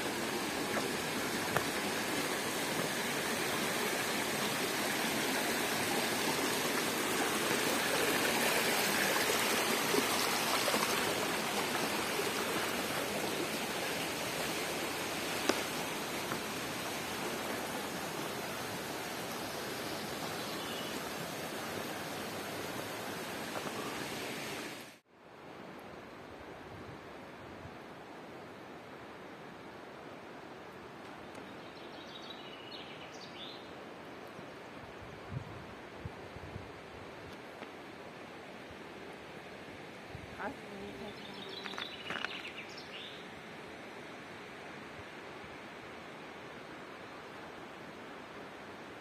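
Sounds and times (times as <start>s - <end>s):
stream running over rocks: 0.0s - 26.0s, 33.4s - 49.0s.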